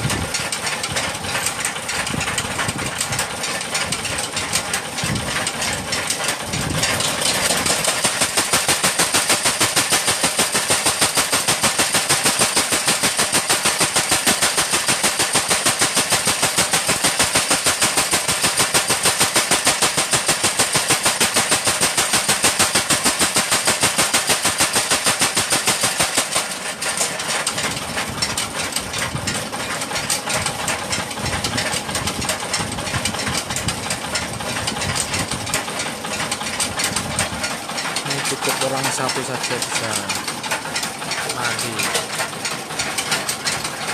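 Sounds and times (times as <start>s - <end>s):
power hammer pounding steel: 0.0s - 43.9s.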